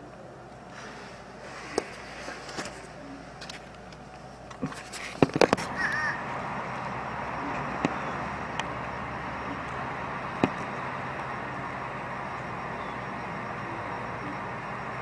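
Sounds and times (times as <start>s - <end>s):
distant traffic noise: 0.0s - 15.0s.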